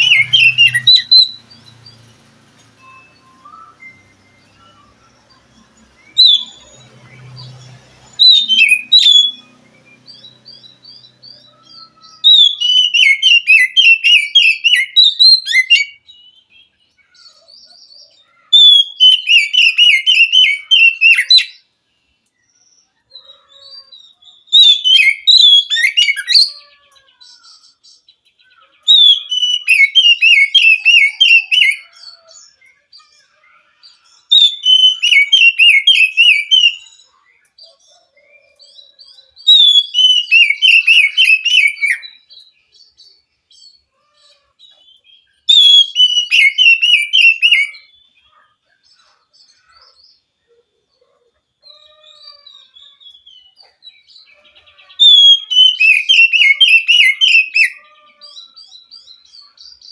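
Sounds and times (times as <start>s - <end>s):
magpie-robin singing: 0.0s - 21.7s, 22.4s - 50.3s, 51.6s - 59.9s.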